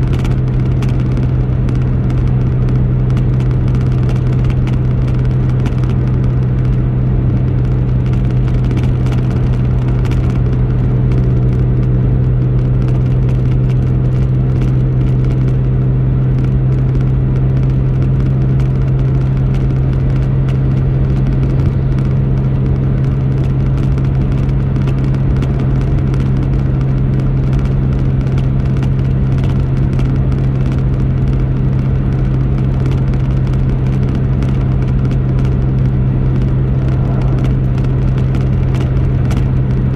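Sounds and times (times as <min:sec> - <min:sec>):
car engine drone: 0:00.0 - 0:39.9
road noise: 0:00.0 - 0:39.9.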